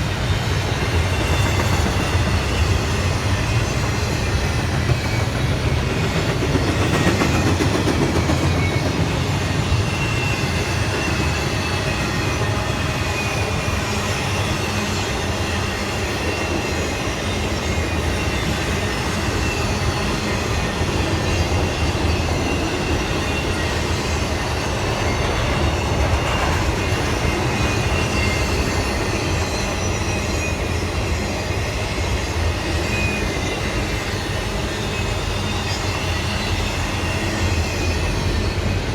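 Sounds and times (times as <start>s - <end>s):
faint high wheel squeal: 0.0s - 38.9s
railroad cars rumbling on track: 0.0s - 38.9s.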